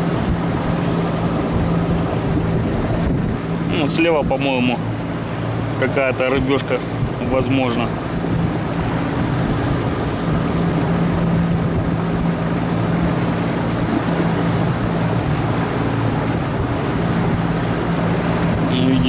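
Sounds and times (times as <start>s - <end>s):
wind noise: 0.0s - 5.7s, 6.8s - 19.0s
outboard motor humming: 0.0s - 19.0s
water noise: 0.0s - 19.0s.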